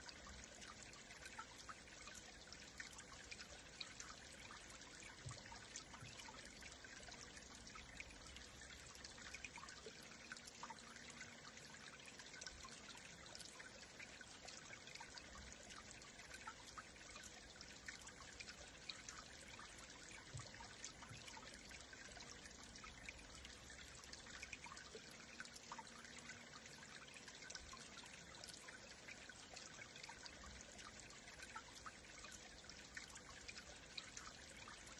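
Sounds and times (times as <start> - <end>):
small splashing ticks: 0.0 - 34.9
stream water trickling: 0.0 - 34.9.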